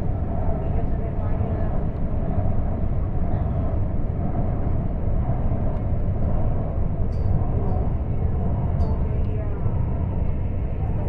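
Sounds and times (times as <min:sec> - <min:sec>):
metro train running rumble: 0:00.0 - 0:11.0.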